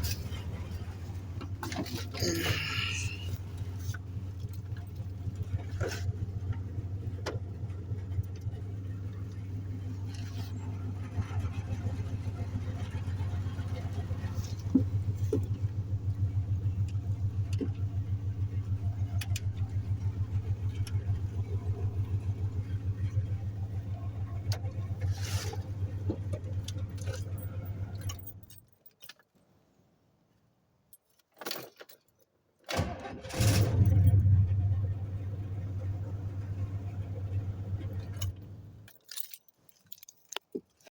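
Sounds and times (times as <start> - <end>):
car engine idling: 0.0 - 28.4, 33.3 - 38.9
engine cranking and revving: 0.0 - 28.4, 32.7 - 38.9.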